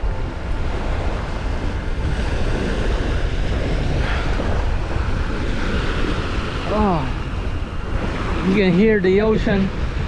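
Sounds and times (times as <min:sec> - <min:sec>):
sea waves washing onto beach: 0:00.0 - 0:10.0
wind rumbling on microphone: 0:00.0 - 0:10.0.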